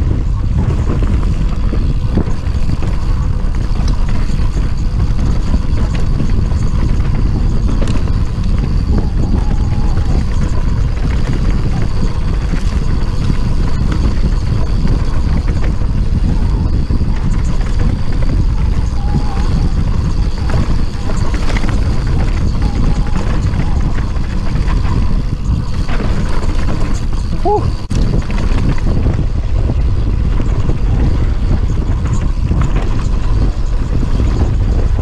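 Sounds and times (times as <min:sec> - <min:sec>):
bike clicks and rattles: 0:00.0 - 0:35.0
wind buffeting microphone: 0:00.0 - 0:35.0
tyres on dirt: 0:00.1 - 0:35.0.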